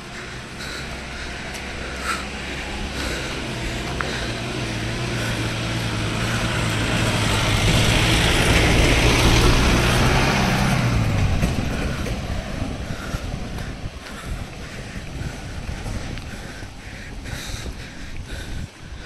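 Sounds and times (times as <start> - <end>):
vehicle engine passing by: 0.0 - 16.2.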